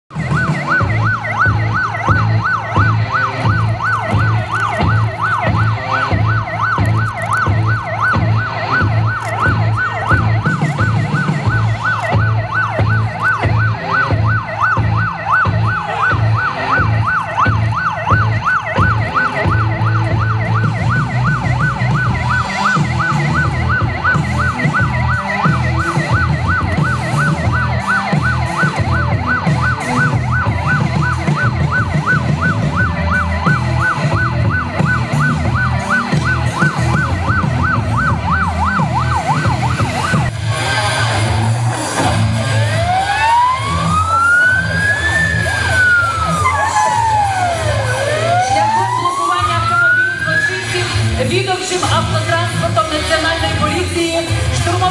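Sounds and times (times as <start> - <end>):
police siren yelp: 0.1 - 54.9.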